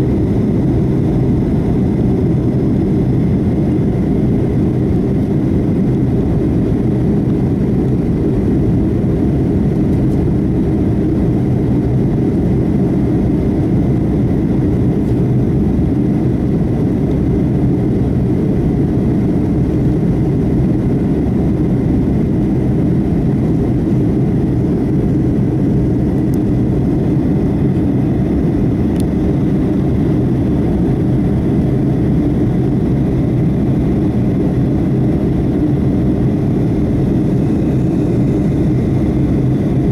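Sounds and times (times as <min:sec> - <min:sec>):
jet engine rumble: 0:00.0 - 0:39.9.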